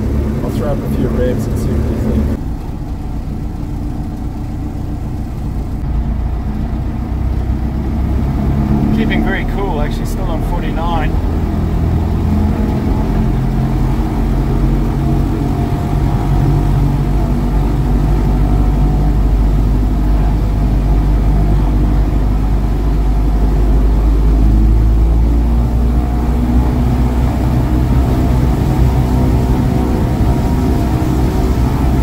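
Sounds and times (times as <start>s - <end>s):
aircraft engine revving: 0.0s - 32.0s.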